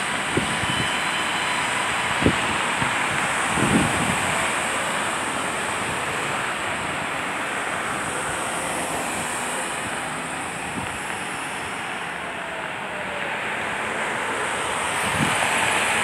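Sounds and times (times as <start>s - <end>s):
cars passing on street: 0.0s - 16.0s.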